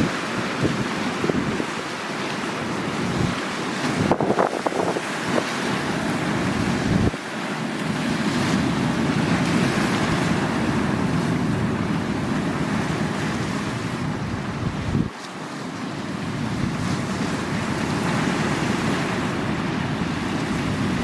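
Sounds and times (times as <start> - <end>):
wind buffeting microphone: 0.0 - 1.9, 2.7 - 7.2, 8.3 - 15.2, 16.2 - 21.0
sea waves washing on shore: 0.0 - 21.0.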